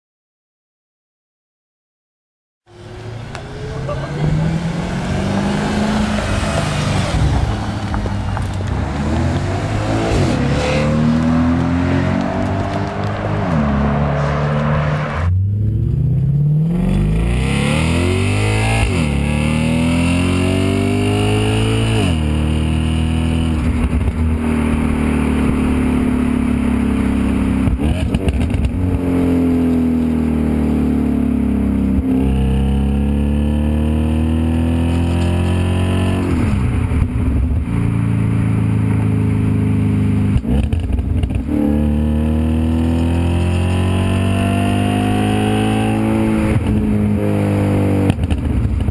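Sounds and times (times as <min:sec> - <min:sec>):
car engine revving through gears: 0:02.8 - 0:36.7, 0:38.9 - 0:48.9.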